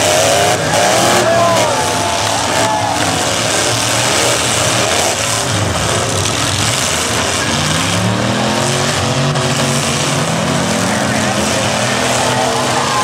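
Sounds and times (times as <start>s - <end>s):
steady engine noise: 0.0s - 13.0s
truck engines revving hard: 0.0s - 13.0s.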